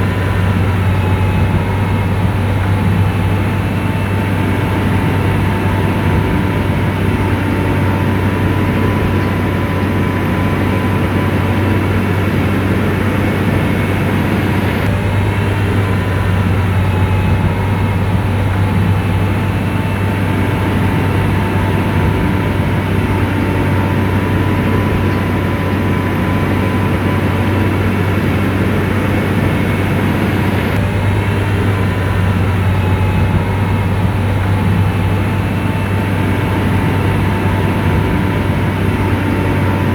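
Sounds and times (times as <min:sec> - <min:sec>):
diesel engine drone: 0:00.0 - 0:39.9
thin steady whine: 0:00.0 - 0:39.9.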